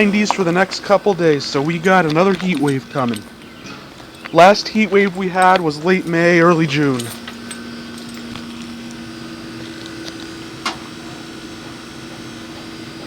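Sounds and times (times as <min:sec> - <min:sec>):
heat pump hum: 0:00.0 - 0:13.0.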